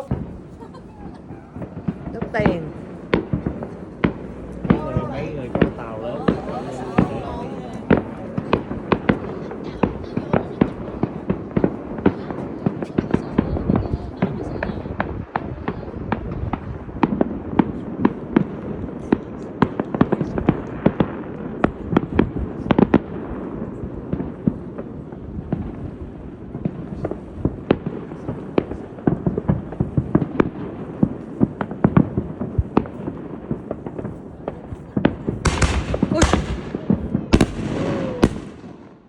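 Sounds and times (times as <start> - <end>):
crackling rumble: 0.0 - 39.0
fireworks bangs and pops: 0.0 - 39.0.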